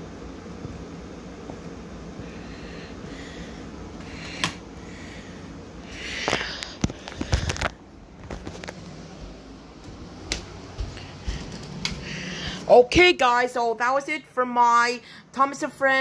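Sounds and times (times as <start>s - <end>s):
faint background hum: 0.0s - 16.0s.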